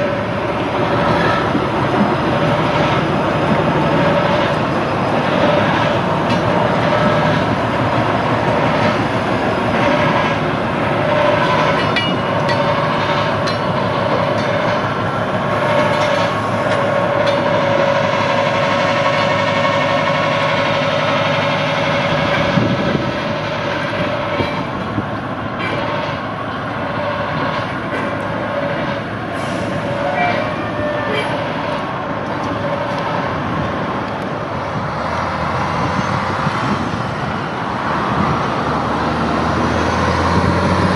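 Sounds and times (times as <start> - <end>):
locomotive engines droning: 0.0 - 40.9
wheels clicking on track: 0.0 - 40.9.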